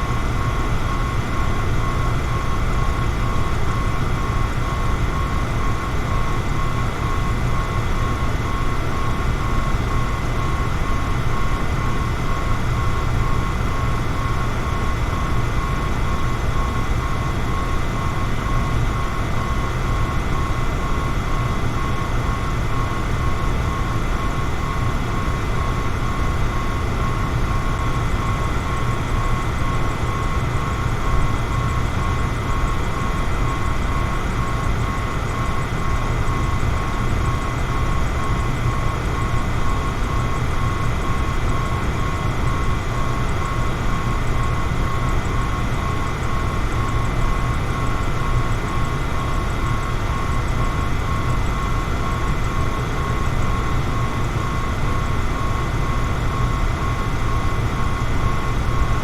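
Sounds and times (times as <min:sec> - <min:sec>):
faint high motor whine: 0:00.0 - 0:59.0.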